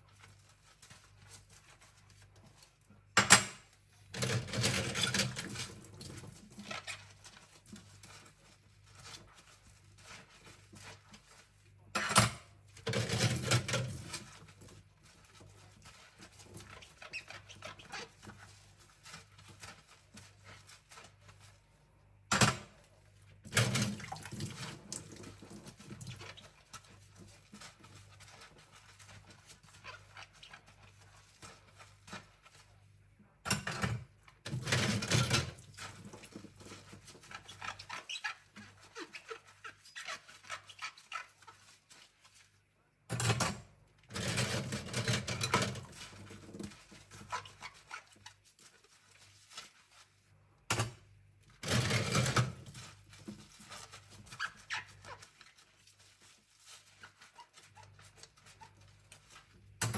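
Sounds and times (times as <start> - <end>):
sponge scrubbing: 0.0 - 2.9, 4.7 - 11.8, 12.7 - 22.1, 22.9 - 33.2, 34.3 - 42.8, 44.4 - 50.6, 51.4 - 59.8.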